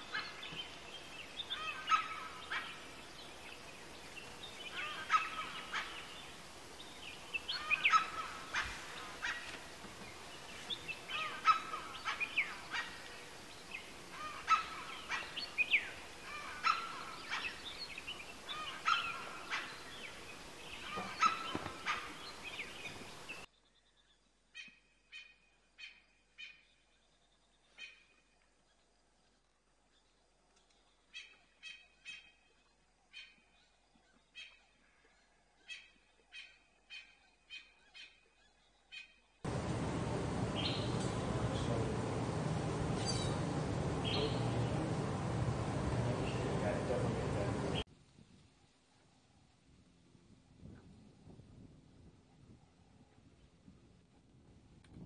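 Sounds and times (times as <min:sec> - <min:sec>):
birds calling: 0:00.0 - 0:28.2, 0:30.0 - 0:47.9.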